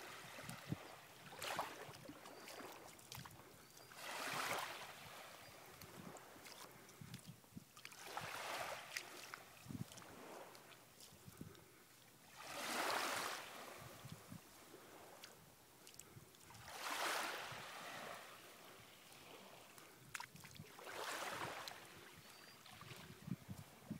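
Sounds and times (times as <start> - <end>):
small waves washing on beach: 0.0 - 23.9.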